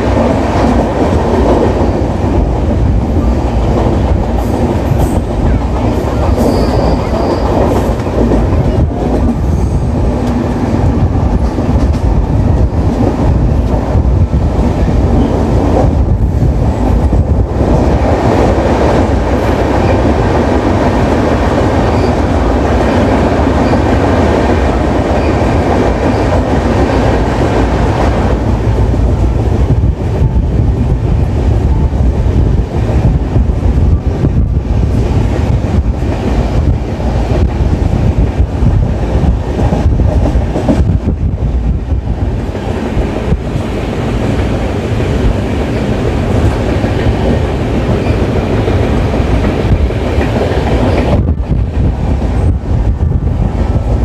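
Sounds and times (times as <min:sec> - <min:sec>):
train coaches rumbling on track: 0:00.0 - 0:54.0.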